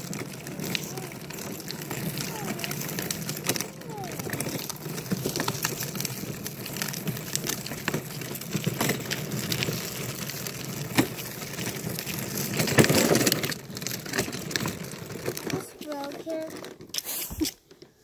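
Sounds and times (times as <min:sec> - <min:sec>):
plastic wagon wheels rolling on asphalt: 0:00.0 - 0:18.0.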